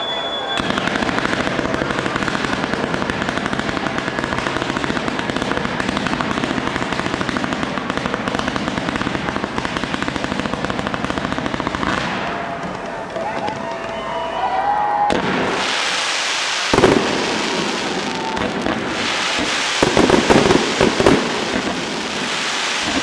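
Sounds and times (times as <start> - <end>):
fireworks crackling pops: 0.0 - 23.0.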